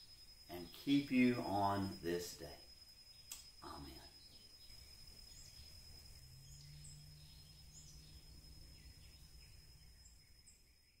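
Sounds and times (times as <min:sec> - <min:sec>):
steady high tone: 0:00.0 - 0:10.7
bird chirps: 0:00.0 - 0:11.0
low hum: 0:00.0 - 0:11.0.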